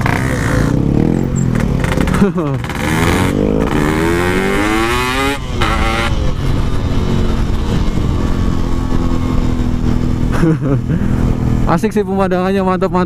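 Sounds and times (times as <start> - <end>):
motorcycle engine accelerating: 0.0 - 12.7.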